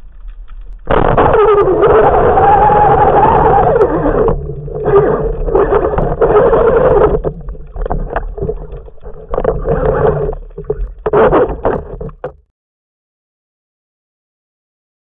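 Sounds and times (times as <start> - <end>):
water sloshing and bubbling: 0.0 - 12.5.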